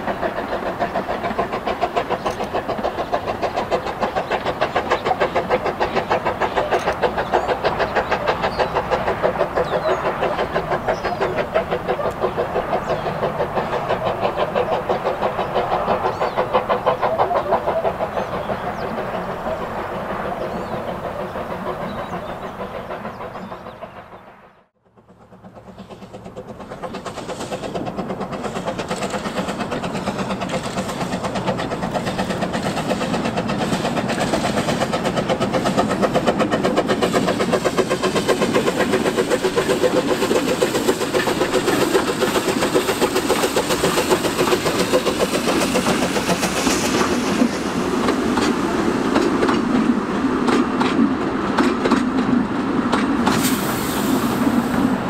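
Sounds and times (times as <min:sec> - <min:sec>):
wagons rolling on rails: 0:00.0 - 0:19.0, 0:25.0 - 0:55.0
steam locomotive exhaust beats: 0:00.0 - 0:55.0.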